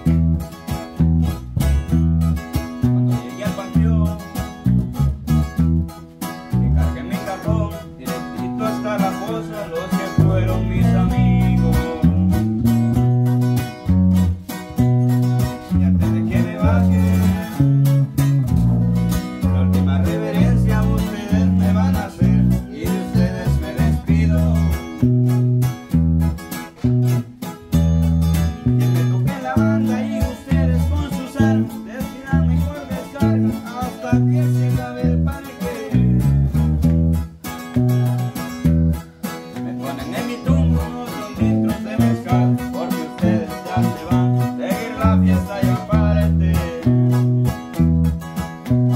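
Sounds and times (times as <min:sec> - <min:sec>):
bass line: 0:00.0 - 0:48.9
strummed and plucked guitar: 0:00.0 - 0:48.9.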